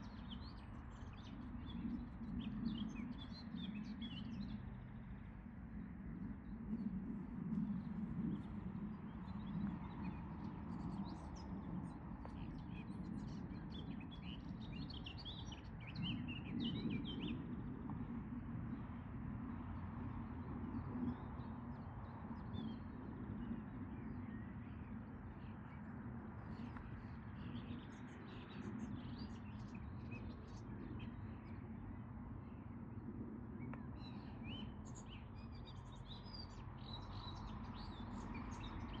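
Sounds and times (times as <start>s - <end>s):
small birds chirping: 0.0s - 5.0s, 6.5s - 17.6s, 20.7s - 32.8s, 33.6s - 39.0s.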